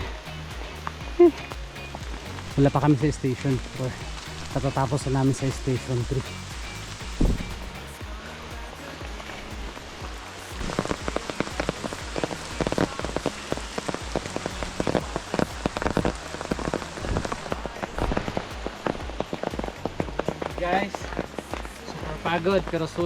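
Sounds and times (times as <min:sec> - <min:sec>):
heavy raindrops tapping: 0:00.0 - 0:23.0
rain falling: 0:00.0 - 0:23.0.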